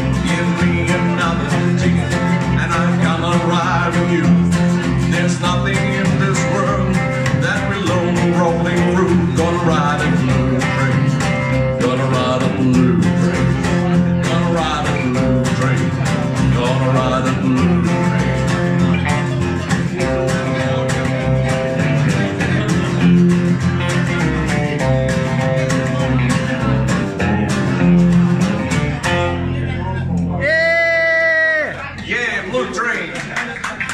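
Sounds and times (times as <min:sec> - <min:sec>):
electric guitar: 0:00.0 - 0:32.0
acoustic guitar strumming: 0:00.0 - 0:33.0
upright double bass: 0:00.0 - 0:33.9.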